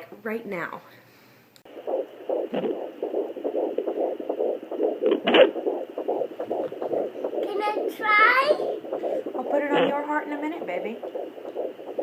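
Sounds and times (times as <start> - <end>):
fast whooshing heartbeat pulse: 1.7 - 12.0
sharp thumps: 1.7 - 12.0.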